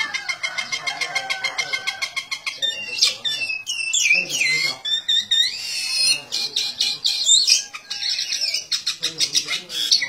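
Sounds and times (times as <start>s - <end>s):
small bird squawking and chirping: 0.0s - 10.0s.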